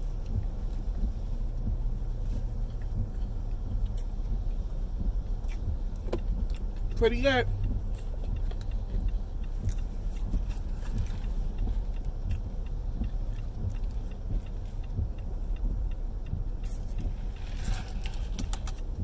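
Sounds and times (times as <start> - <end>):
car cabin rumble: 0.0 - 19.0
light clicks and rattles: 0.0 - 19.0.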